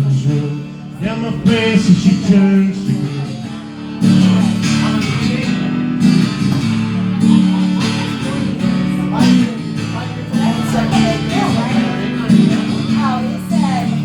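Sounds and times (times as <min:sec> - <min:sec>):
live band with guitar chords: 0:00.0 - 0:14.0.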